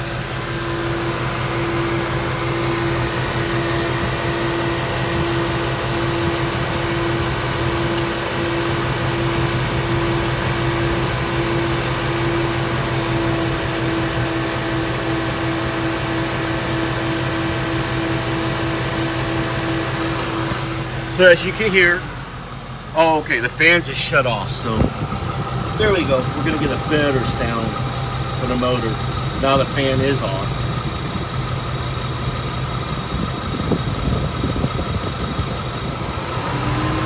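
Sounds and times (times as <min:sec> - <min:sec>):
car engine idling: 0:00.0 - 0:37.0
radiator cooling fan running: 0:00.0 - 0:37.0.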